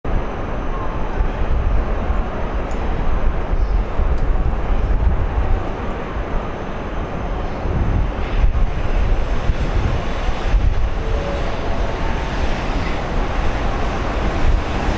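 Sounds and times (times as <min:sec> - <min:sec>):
city noise: 0:00.0 - 0:14.9
distant trains rumbling: 0:00.1 - 0:14.9
wind buffeting microphone: 0:00.1 - 0:14.9.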